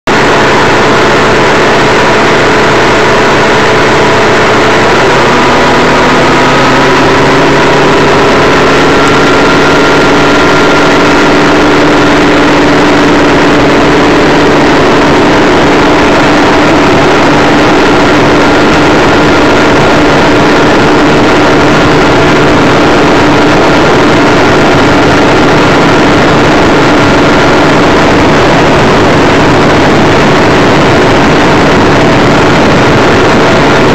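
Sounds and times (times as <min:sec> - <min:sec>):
outboard motor running: 0:00.1 - 0:33.9
rush of wind and water: 0:00.1 - 0:33.9.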